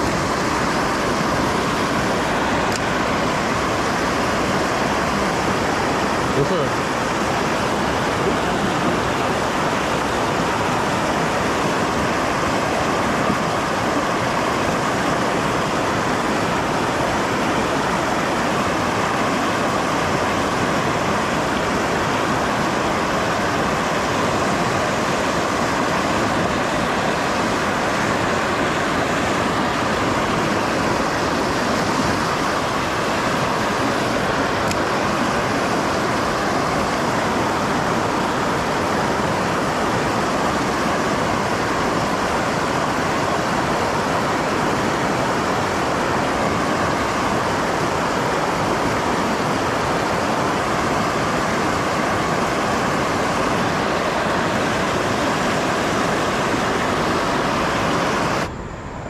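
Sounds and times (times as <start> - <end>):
water rushing over weir: 0.0 - 59.0.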